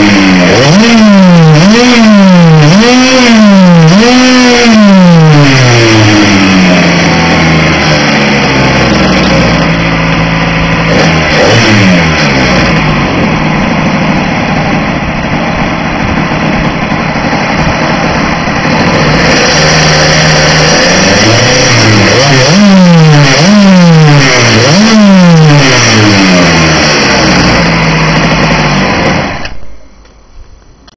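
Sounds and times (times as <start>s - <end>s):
small two-stroke engine revving: 0.0s - 29.6s.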